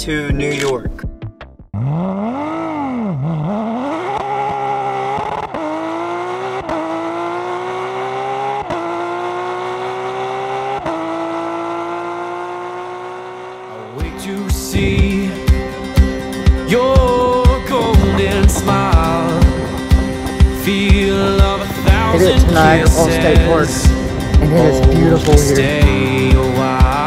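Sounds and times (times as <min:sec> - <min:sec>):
car engine revving: 0:01.8 - 0:27.0.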